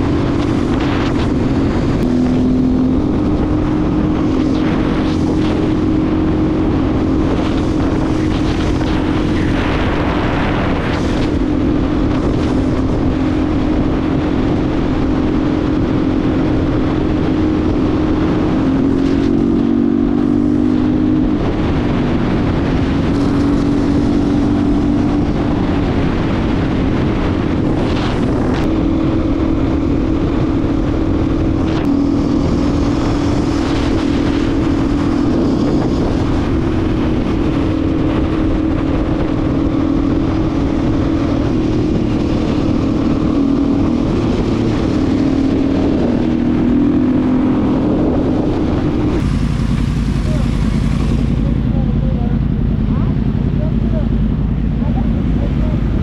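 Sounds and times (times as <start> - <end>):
dirt bike engine droning: 0.0 - 56.0
wind rushing over microphone: 0.0 - 56.0.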